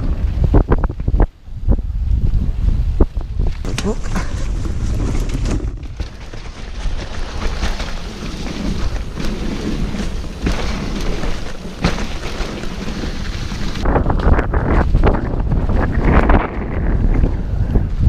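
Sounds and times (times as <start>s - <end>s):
bike tyres rumbling on dirt: 0.0s - 18.0s
bike knocking and rattling: 3.5s - 18.0s.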